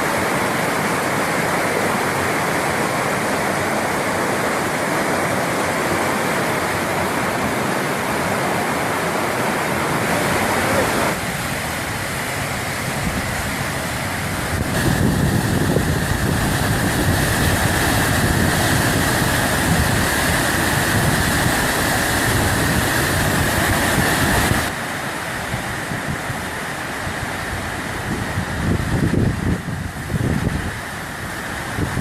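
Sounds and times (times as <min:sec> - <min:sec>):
waterfall pouring: 0:00.0 - 0:32.0.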